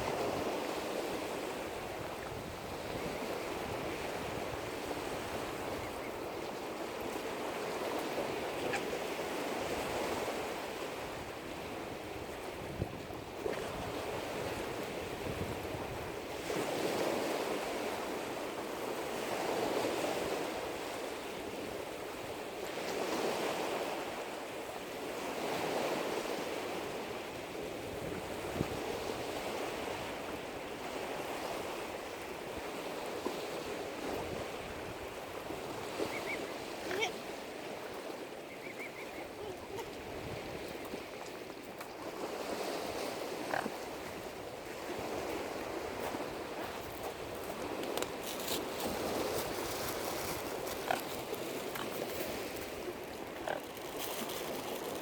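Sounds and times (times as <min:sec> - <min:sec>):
small waves lapping at shore: 0:00.0 - 0:55.0.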